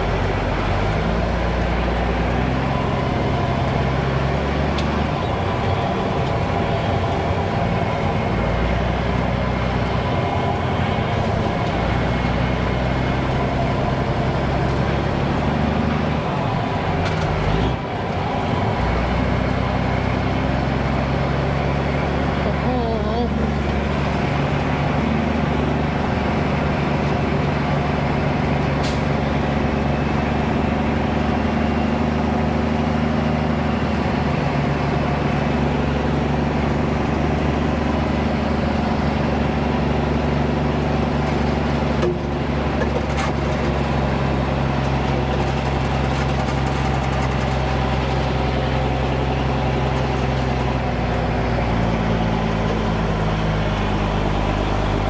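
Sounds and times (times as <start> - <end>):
dump truck diesel engine running: 0.0 - 55.0.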